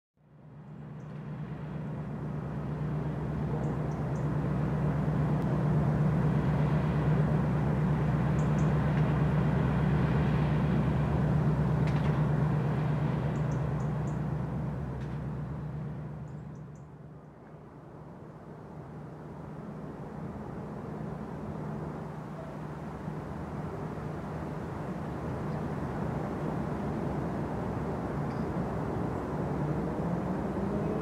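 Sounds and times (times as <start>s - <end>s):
ship engine droning: 0.2s - 31.0s.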